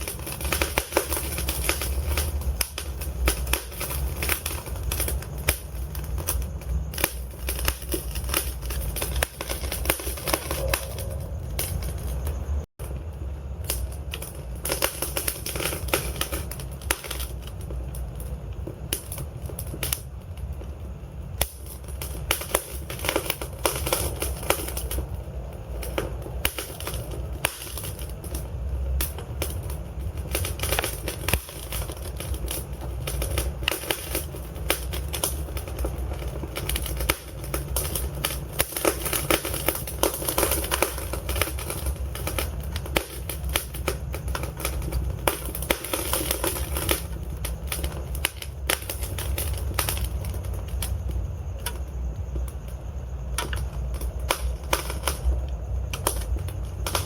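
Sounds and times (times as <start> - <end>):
logs crackling and popping: 0.0 - 57.0
low rumble of fire: 0.0 - 57.0.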